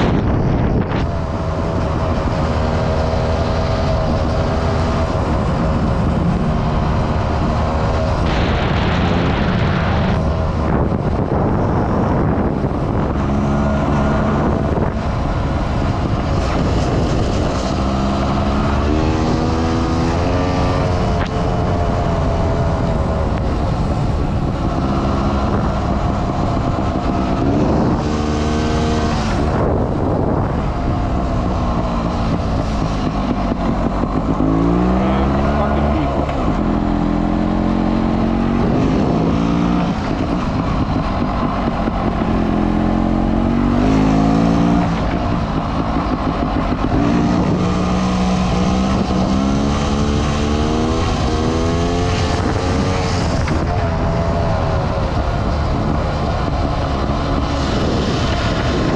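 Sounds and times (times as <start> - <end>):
motorcycle engine revving: 0.0 - 58.9
wind noise on microphone: 0.0 - 58.9.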